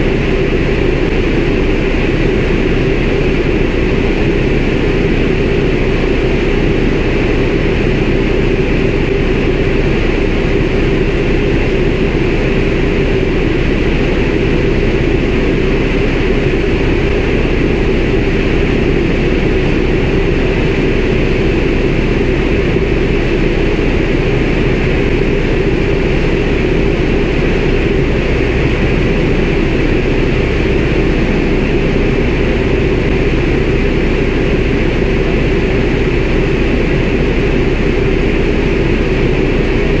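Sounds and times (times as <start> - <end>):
radial engine and propeller drone: 0.0 - 40.0.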